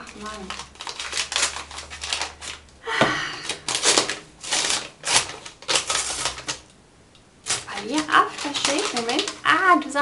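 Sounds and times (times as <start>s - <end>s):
wrapping paper crinkling: 0.0s - 2.8s, 3.4s - 6.7s, 7.4s - 10.0s.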